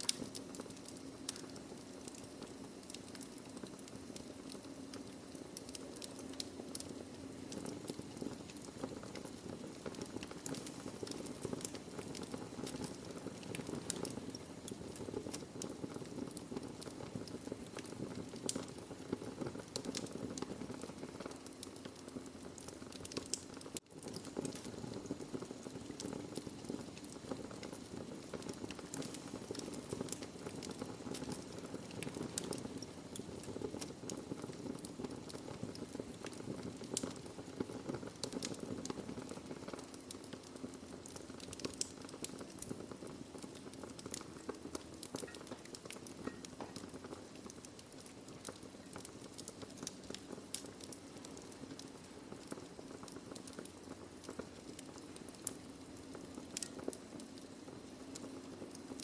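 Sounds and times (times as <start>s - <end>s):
burning logs crackling and popping: 0.0s - 59.0s
fire hiss and rumble: 0.0s - 59.0s.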